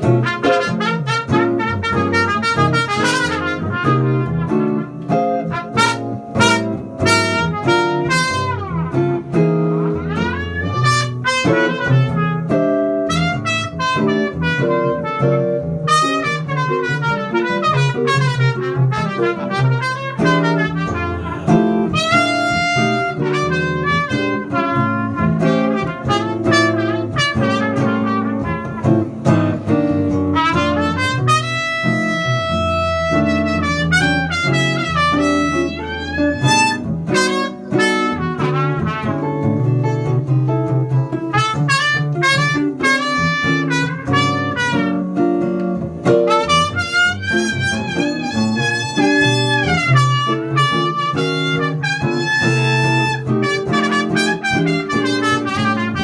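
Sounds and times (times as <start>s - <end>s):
jazz guitar chords: 0.0s - 56.0s
jazz trumpet solo: 0.0s - 56.0s.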